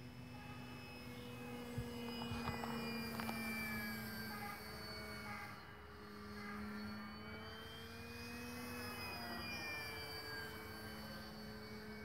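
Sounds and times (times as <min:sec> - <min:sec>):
model airplane motor whine: 0:00.0 - 0:12.0.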